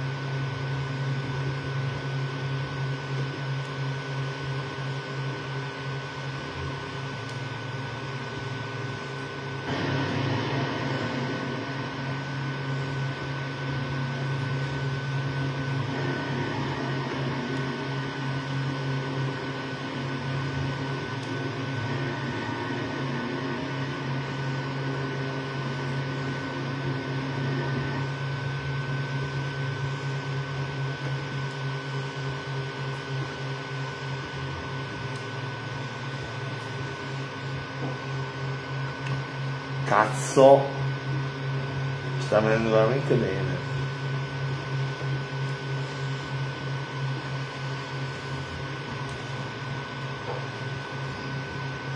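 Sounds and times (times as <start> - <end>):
printer motor hum and whir: 0.0 - 51.9
thin high whine: 0.0 - 51.9.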